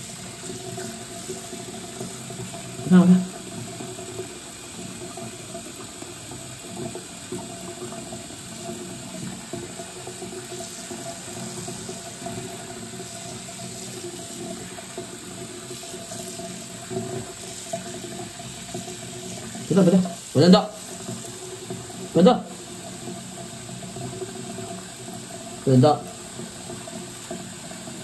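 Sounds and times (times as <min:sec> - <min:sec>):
tap water splashing into sink: 0:00.0 - 0:28.0.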